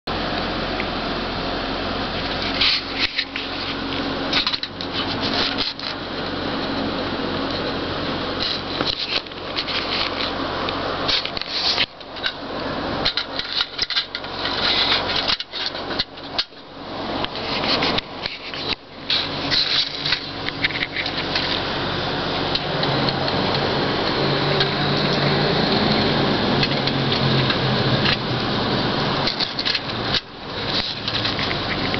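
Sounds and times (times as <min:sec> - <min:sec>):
toy rubbing and scraping: 0:02.2 - 0:12.4, 0:13.0 - 0:28.3, 0:29.1 - 0:31.9.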